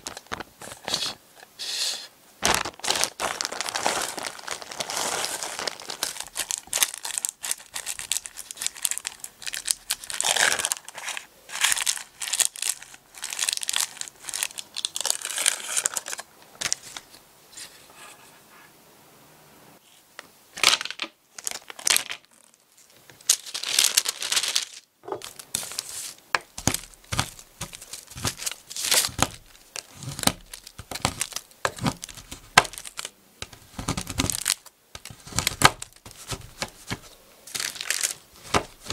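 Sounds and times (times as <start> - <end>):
plastic bag crinkling: 2.4 - 17.1, 20.8 - 33.1, 33.9 - 38.9.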